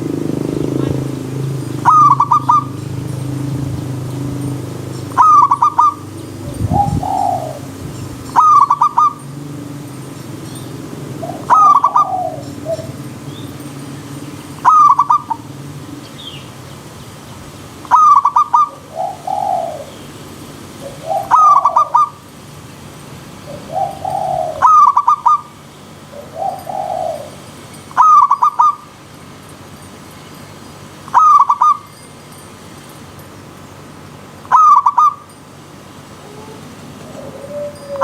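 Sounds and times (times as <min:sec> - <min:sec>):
doves cooing: 0:00.0 - 0:22.4, 0:23.3 - 0:29.0, 0:31.1 - 0:31.9, 0:34.4 - 0:35.3, 0:36.1 - 0:38.0.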